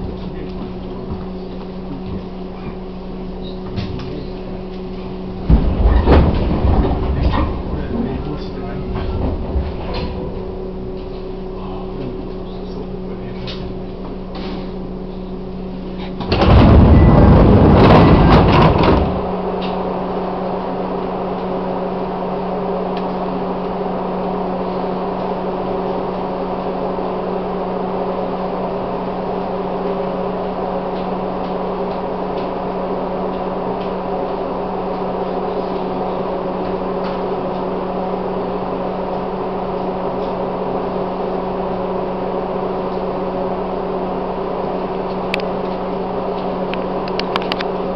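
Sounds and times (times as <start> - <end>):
electric train hum: 0.0 - 47.9.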